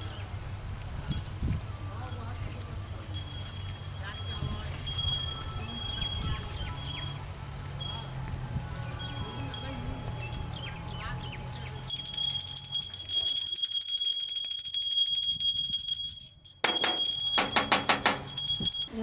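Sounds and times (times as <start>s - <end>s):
electric doorbell ringing: 3.2s - 8.4s, 9.0s - 19.0s.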